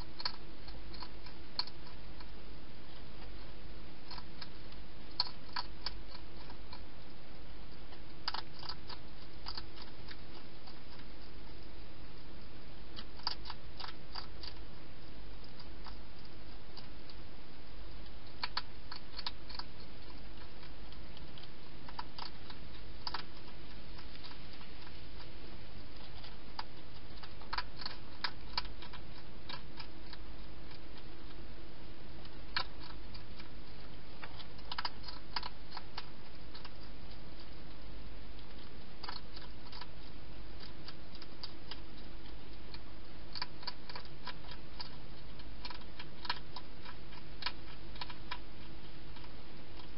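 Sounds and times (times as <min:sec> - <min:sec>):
hedgehog crunching food: 0:00.0 - 0:49.9
steady hiss: 0:00.0 - 0:49.9.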